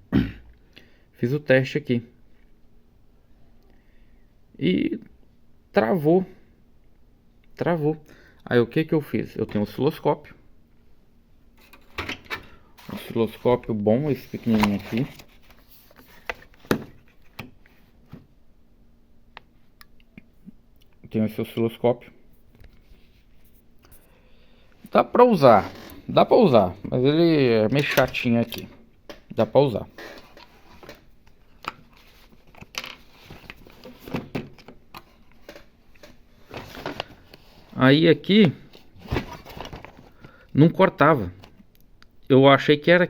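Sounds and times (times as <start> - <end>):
faint hum: 0.0 - 42.4
low background noise: 0.0 - 43.0.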